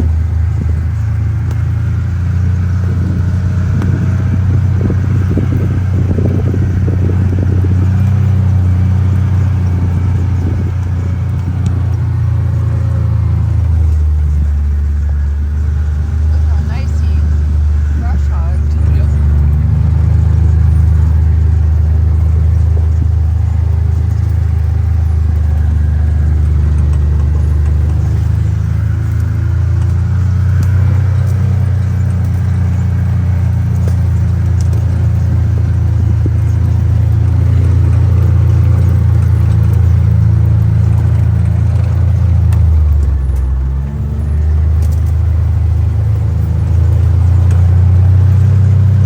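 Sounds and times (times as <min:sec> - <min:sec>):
utility vehicle engine droning: 0:00.0 - 0:49.0.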